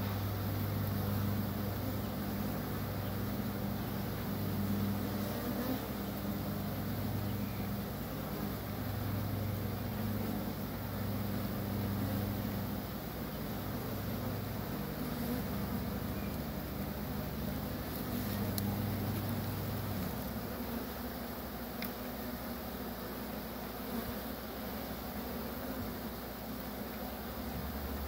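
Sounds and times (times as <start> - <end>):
bee swarm buzzing: 0.0 - 28.0.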